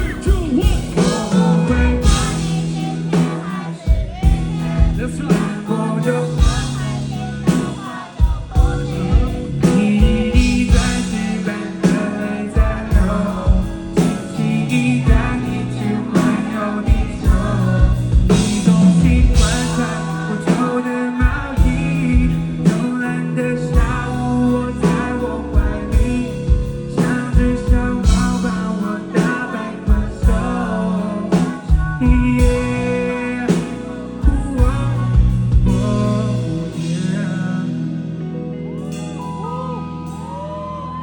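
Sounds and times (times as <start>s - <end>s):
live band playing pop-rock: 0.0s - 41.0s
person singing: 0.0s - 41.0s.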